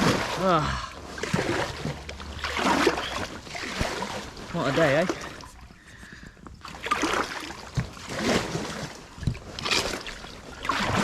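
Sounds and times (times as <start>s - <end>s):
kayak paddle splashing: 0.0s - 11.0s.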